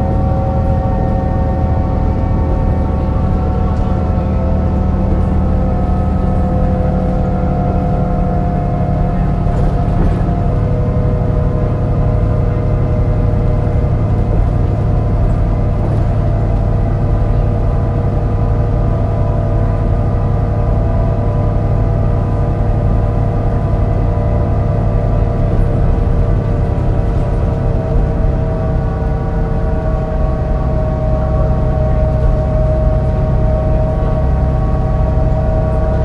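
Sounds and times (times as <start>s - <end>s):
bus engine running with misfire: 0.0s - 36.0s.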